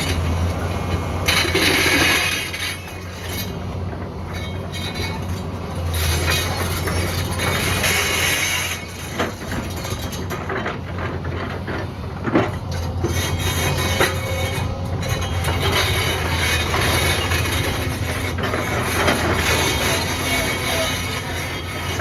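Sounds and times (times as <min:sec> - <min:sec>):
excavator engine under load: 0:00.0 - 0:22.0.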